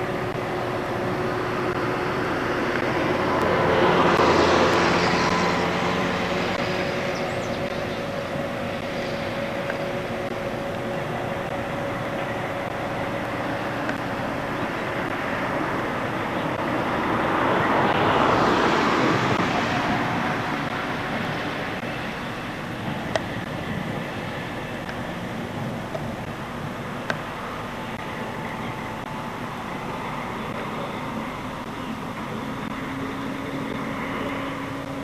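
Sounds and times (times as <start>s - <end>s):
train running: 0.0s - 35.0s.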